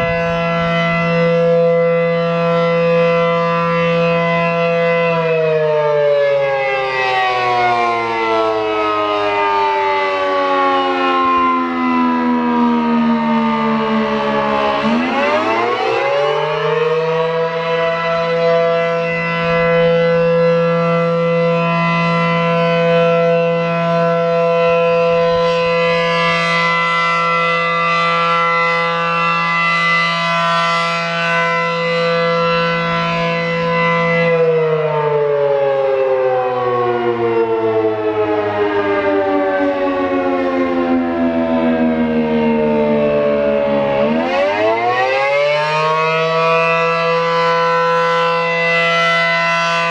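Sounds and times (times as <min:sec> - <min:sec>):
rotating warning siren: 0:00.0 - 0:49.9.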